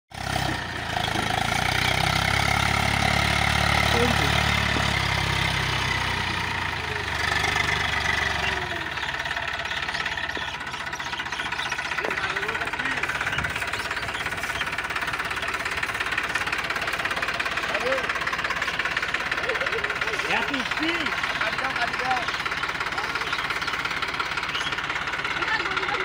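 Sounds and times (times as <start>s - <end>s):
tractor diesel engine running: 0.1s - 26.0s.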